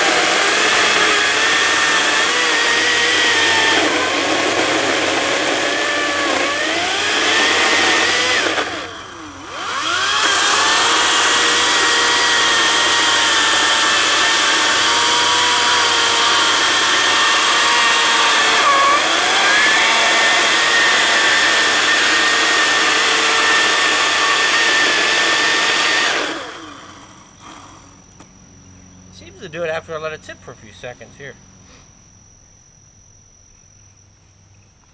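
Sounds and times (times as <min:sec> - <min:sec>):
electric chainsaw cutting log: 0:00.0 - 0:28.1.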